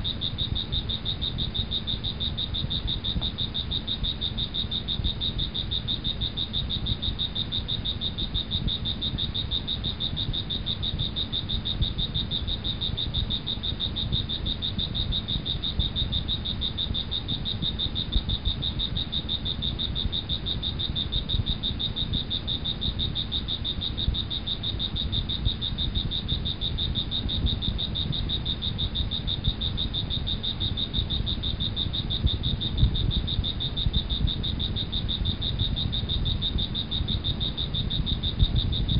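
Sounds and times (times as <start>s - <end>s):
high-pitched pulsing insect trill: 0.0s - 38.9s.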